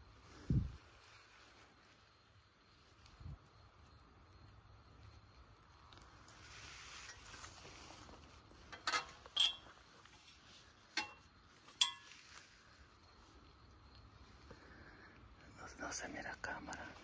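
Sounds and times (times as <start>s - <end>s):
soft rustle: 0.0s - 17.0s.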